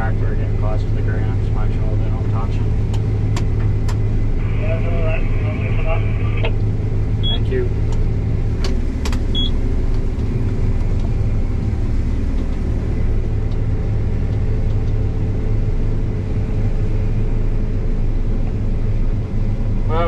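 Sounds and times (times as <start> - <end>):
heavy machinery engine droning: 0.0 - 20.0.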